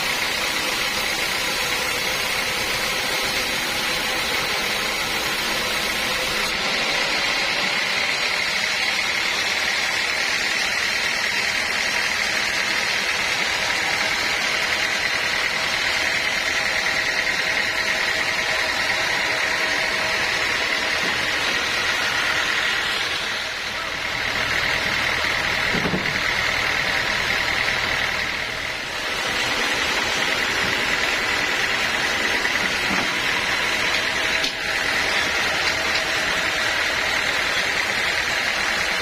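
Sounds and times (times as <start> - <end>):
high mechanical whine: 0.0 - 39.0
sawmill machinery running: 0.0 - 39.0.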